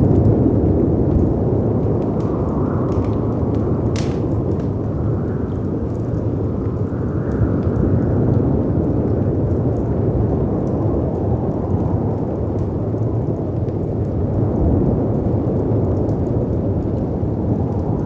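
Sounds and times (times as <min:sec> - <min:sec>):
fireplace crackles and pops: 0:00.0 - 0:18.0
storm wind rumbling: 0:00.0 - 0:18.0.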